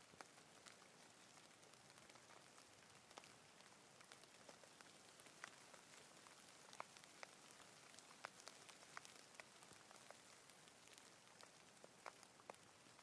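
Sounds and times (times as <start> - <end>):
light rain hiss: 0.0 - 13.0
raindrops ticking: 0.0 - 13.0.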